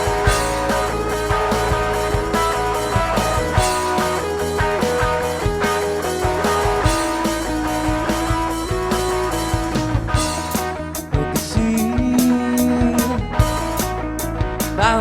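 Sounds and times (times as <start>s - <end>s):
electric guitar long notes: 0.0s - 15.0s
live rock band playing: 0.0s - 15.0s.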